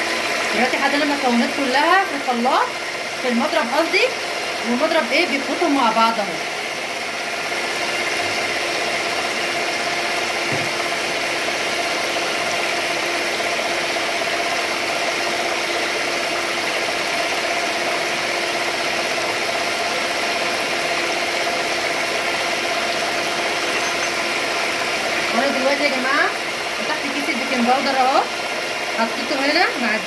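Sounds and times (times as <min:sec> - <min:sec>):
stand mixer motor humming: 0:00.0 - 0:30.0.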